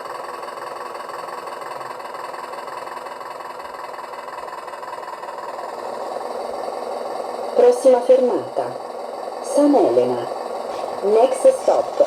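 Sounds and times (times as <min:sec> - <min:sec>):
model boat motor humming: 0:00.0 - 0:12.0.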